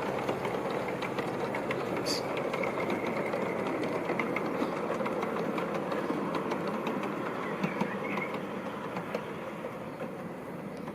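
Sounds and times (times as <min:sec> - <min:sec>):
model train rumble: 0:00.0 - 0:10.9
wheels clicking on rails: 0:00.0 - 0:10.9.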